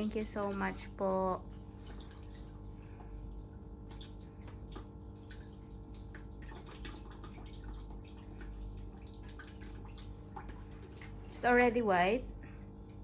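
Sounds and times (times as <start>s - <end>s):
rice rinsed in water: 0.0s - 13.0s
steady low hum: 0.0s - 13.0s.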